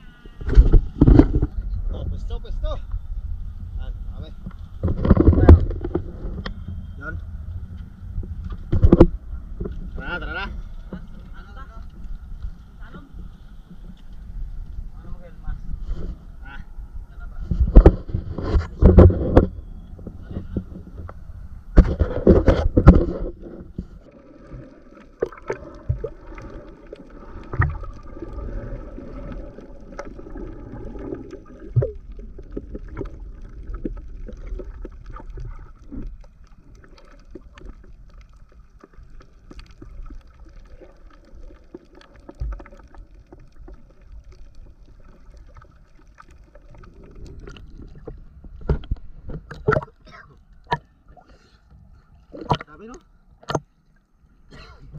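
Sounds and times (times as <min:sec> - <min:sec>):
faint steady hum: 0:00.0 - 0:54.9
muffled underwater wash: 0:00.0 - 0:54.9.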